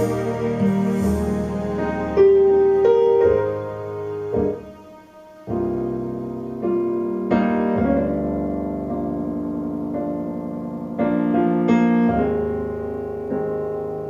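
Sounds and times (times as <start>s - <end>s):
slow piano chords over loudspeaker: 0.0s - 14.0s.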